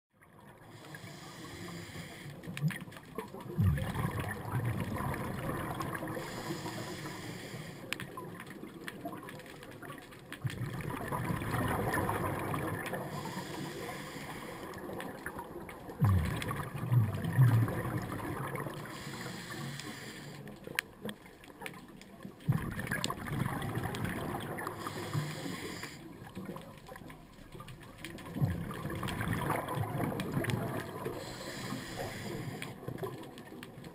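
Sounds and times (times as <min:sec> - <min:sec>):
underwater water noise: 0:00.1 - 0:33.9.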